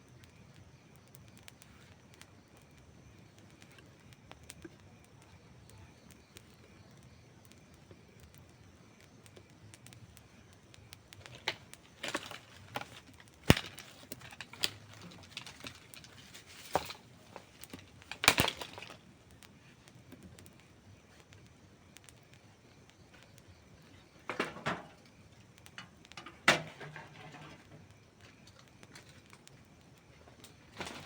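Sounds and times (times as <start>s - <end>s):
burning wood popping: 0.0s - 31.0s.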